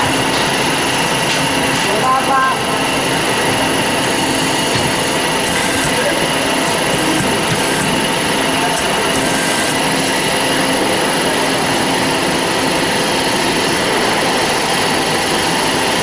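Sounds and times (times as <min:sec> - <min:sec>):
band saw machine whining: 0:02.7 - 0:16.0.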